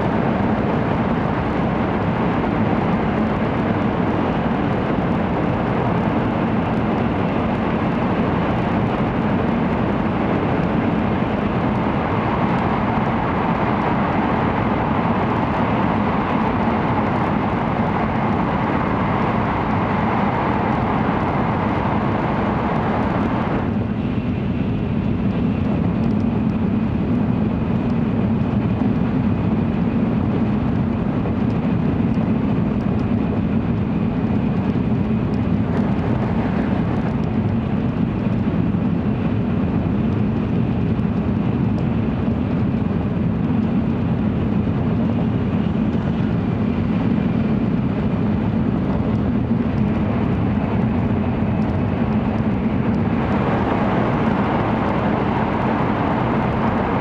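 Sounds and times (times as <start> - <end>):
train low rumble: 0.0 - 57.0
train rushing roar in tunnel: 0.0 - 57.0.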